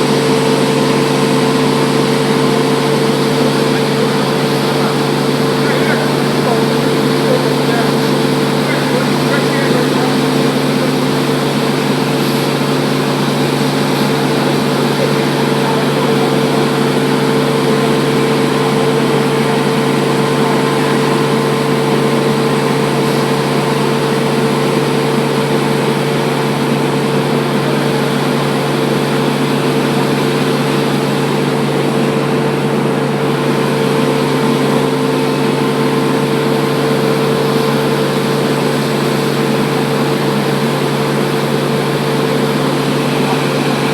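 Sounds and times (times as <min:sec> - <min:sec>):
belt sander running: 0:00.0 - 0:43.9.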